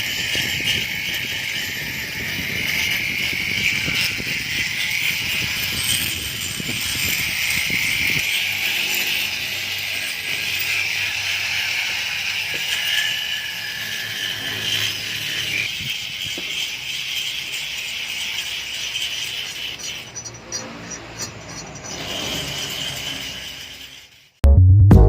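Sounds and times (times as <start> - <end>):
rotary grinder grinding metal: 0.0 - 24.4.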